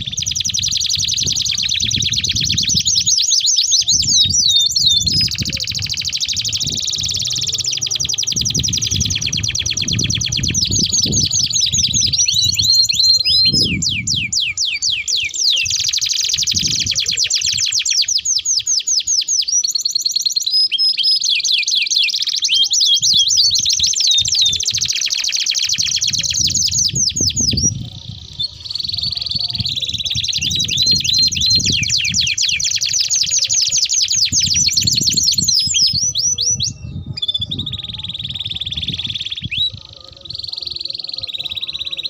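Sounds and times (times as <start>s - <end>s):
canary singing trills: 0.0s - 42.0s.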